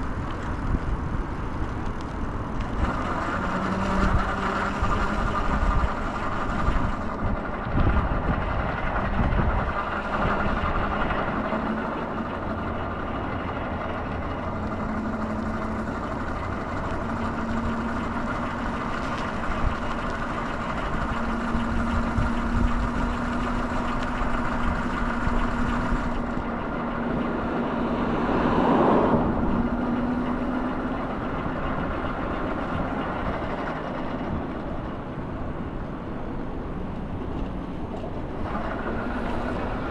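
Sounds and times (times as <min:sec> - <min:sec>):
low engine hum: 0:00.0 - 0:39.9
vehicle road noise: 0:00.0 - 0:39.9.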